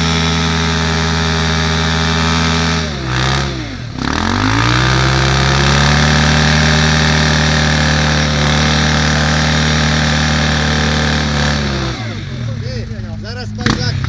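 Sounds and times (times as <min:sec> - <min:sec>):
wheel spinning in mud: 0:00.0 - 0:12.2
motorcycle engine revving high: 0:00.0 - 0:14.0.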